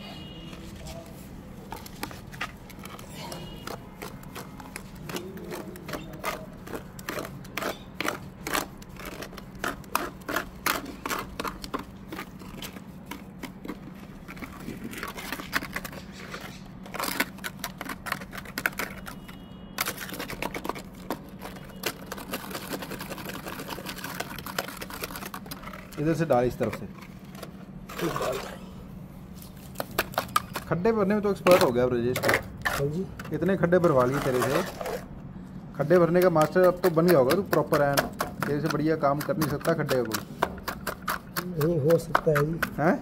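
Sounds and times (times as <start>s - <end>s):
hand tools clicking and scraping: 0.8s - 28.1s, 29.6s - 35.1s, 35.8s - 43.0s.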